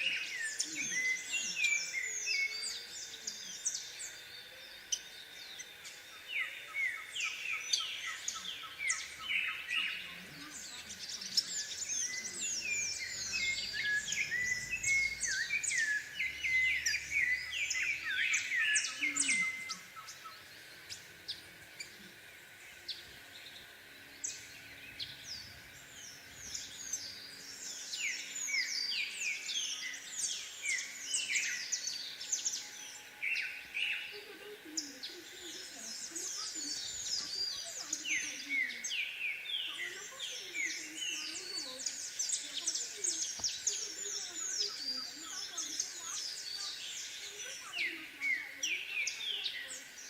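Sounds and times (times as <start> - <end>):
songbirds chirping and singing: 0.0 - 50.0.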